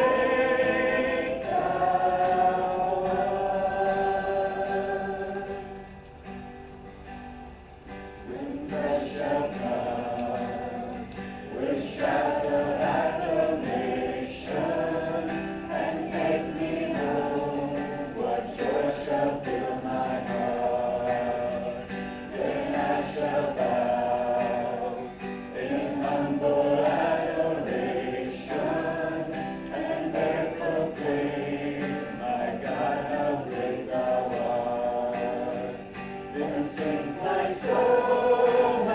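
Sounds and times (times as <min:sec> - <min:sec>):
congregation singing a hymn: 0:00.0 - 0:07.2, 0:07.9 - 0:38.9.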